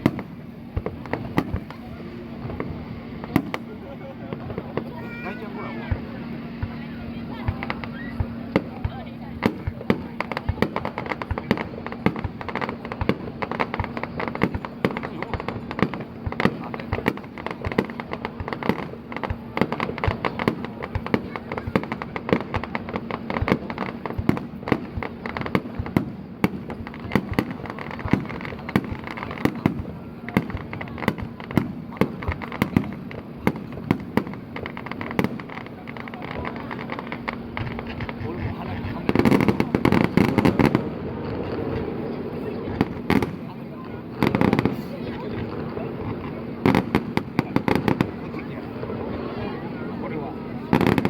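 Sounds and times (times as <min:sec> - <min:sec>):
fireworks bangs and cracks: 0:00.0 - 0:51.0.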